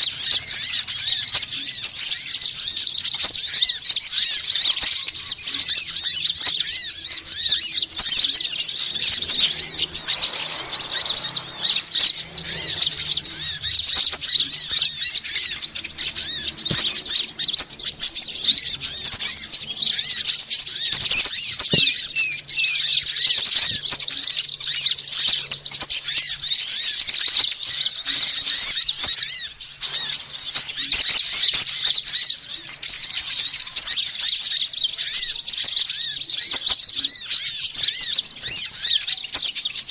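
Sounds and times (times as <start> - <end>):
songbirds chirping and chattering: 0.0 - 39.9.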